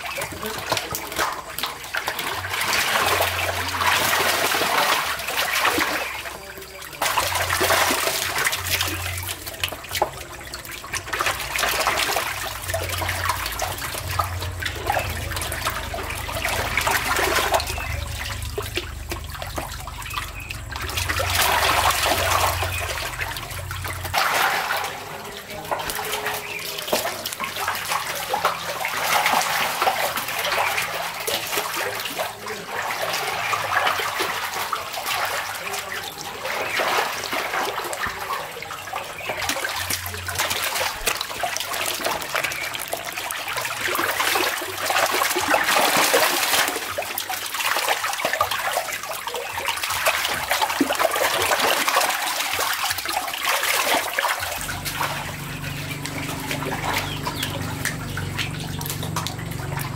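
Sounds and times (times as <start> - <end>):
fish thrashing and splashing in water: 0.0 - 59.9
plastic basket scooping through water: 0.0 - 59.9.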